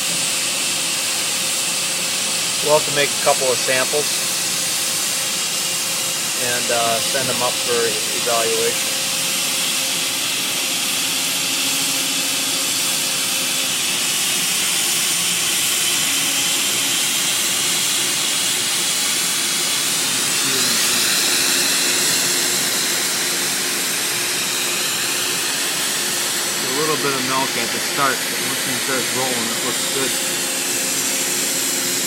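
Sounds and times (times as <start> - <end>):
welding torch hissing: 0.1 - 32.0.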